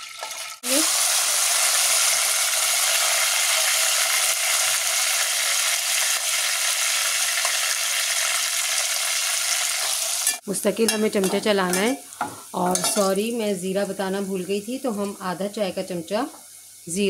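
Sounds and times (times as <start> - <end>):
onions sizzling in hot fat: 0.0 - 17.0.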